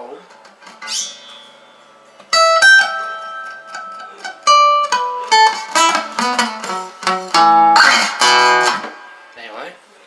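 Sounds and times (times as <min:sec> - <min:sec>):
acoustic guitar picked notes: 0:00.3 - 0:09.4.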